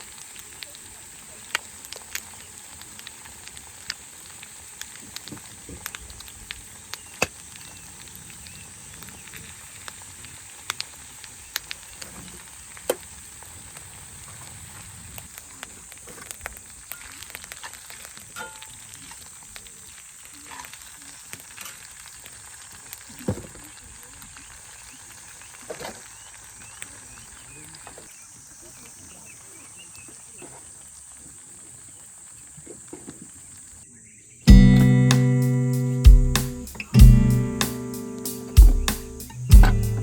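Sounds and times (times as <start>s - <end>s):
campfire hissing: 0.0s - 34.0s, 34.7s - 40.0s.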